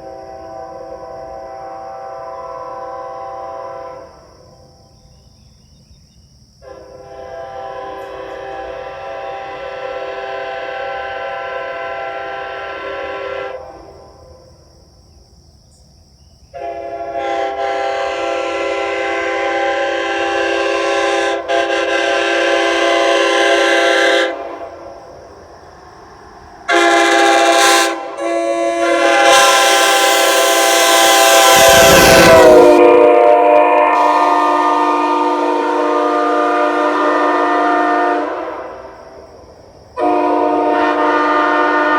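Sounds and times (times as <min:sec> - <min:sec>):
locomotive air horn blasts: 0:00.0 - 0:04.3, 0:06.6 - 0:14.0, 0:16.5 - 0:24.7, 0:26.7 - 0:39.0, 0:40.0 - 0:41.9.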